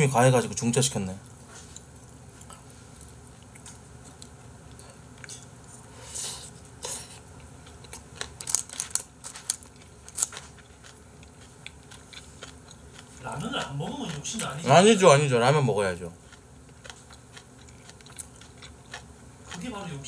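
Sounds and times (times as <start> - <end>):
person chewing food: 1.4 - 14.9, 16.2 - 20.0.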